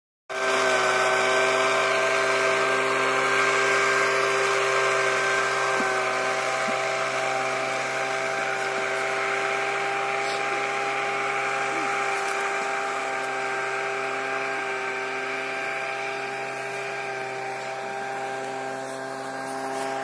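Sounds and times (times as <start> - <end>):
small engine whining: 0.3 - 20.0.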